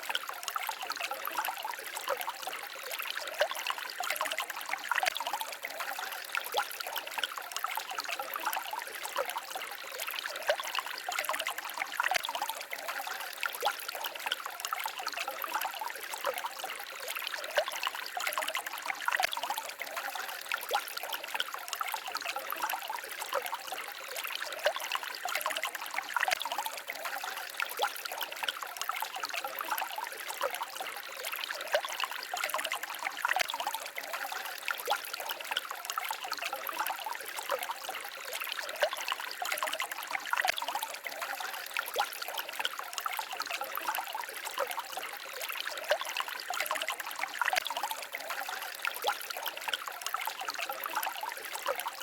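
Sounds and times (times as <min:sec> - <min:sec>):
stream babbling over stones: 0:00.0 - 0:52.0.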